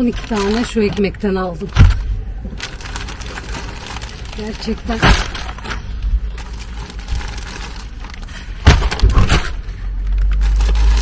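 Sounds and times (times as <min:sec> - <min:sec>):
items knocking down: 0:00.0 - 0:11.0
low steady rumble: 0:00.0 - 0:11.0
plastic bags rustling: 0:00.0 - 0:11.0.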